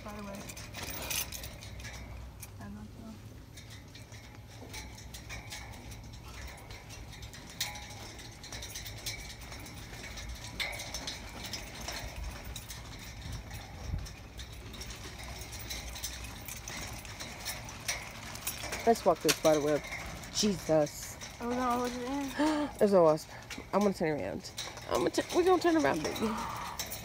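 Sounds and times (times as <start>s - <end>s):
footsteps on metal grate: 0.0s - 2.6s, 3.3s - 27.0s
steady low rumble: 0.0s - 27.0s.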